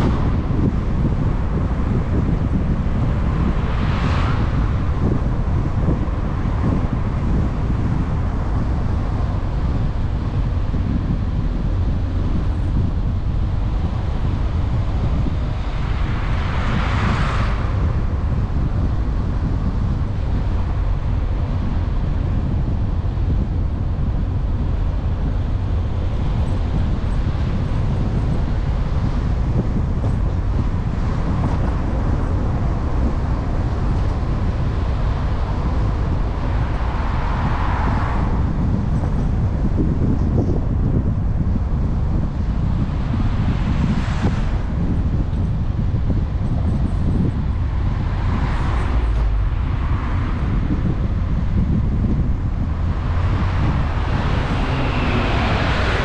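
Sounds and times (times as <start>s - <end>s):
tyres rumbling on road: 0.0s - 56.0s
wind buffeting microphone: 0.0s - 56.0s.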